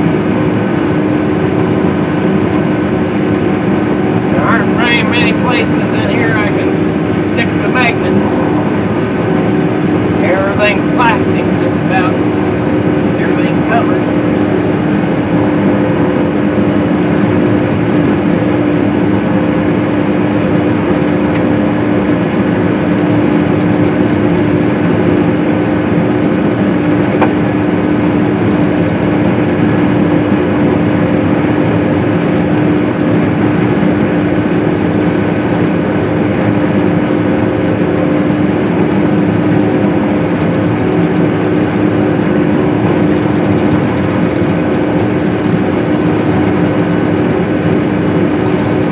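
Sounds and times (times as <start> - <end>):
windrower engine droning: 0.0 - 48.9.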